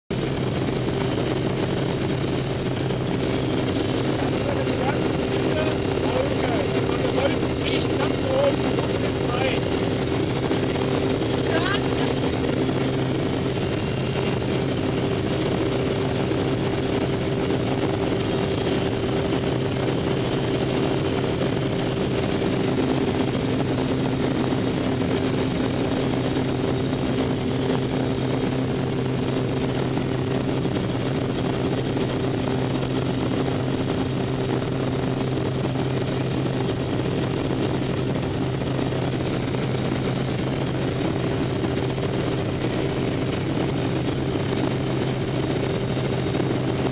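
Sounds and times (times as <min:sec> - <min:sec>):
propeller plane engine drone: 0:00.1 - 0:46.9.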